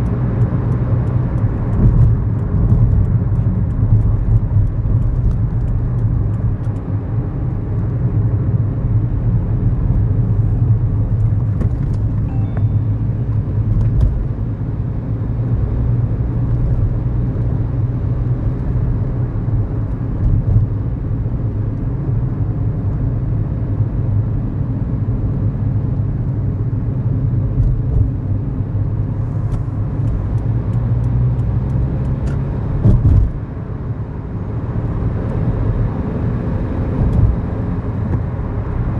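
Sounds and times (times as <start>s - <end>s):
tyre and road noise: 0.0s - 23.2s, 25.7s - 38.9s.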